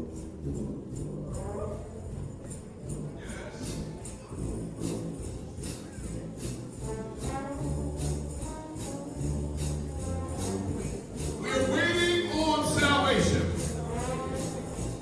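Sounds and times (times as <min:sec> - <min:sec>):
sustained bass line: 0:00.0 - 0:15.0
tambourine beat: 0:00.0 - 0:15.0
trombone band playing gospel: 0:00.0 - 0:15.0.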